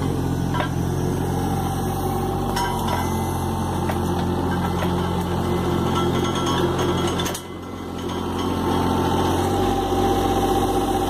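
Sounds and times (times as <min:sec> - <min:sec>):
excavator diesel engine running: 0:00.0 - 0:11.0
hydraulics working: 0:00.0 - 0:11.0.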